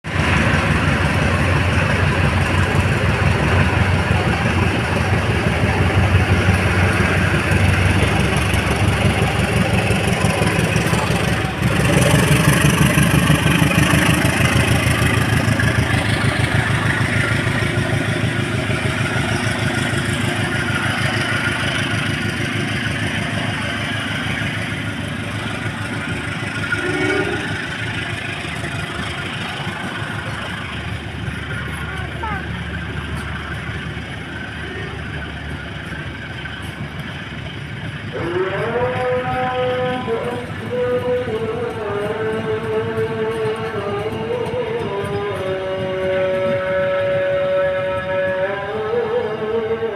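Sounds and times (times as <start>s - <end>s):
train diesel engine throbbing: 0.0s - 49.9s.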